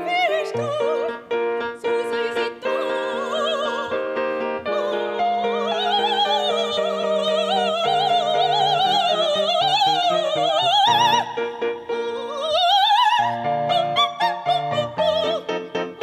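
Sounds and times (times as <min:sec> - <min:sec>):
grand piano: 0:00.0 - 0:16.0
woman singing opera: 0:00.0 - 0:16.0.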